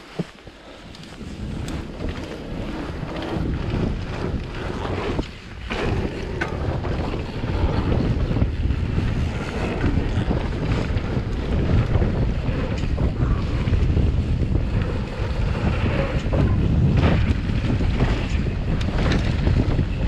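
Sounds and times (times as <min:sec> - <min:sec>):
wind rushing over microphone: 0:00.0 - 0:20.0
tyres rumbling on ground: 0:00.9 - 0:20.0
bike knocking over bumps: 0:01.4 - 0:20.0.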